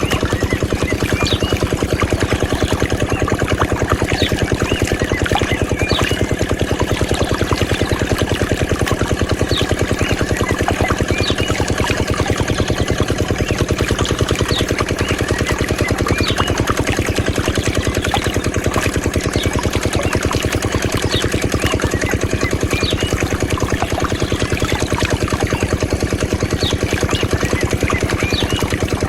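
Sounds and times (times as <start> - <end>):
diesel engine running steadily: 0.0 - 29.0.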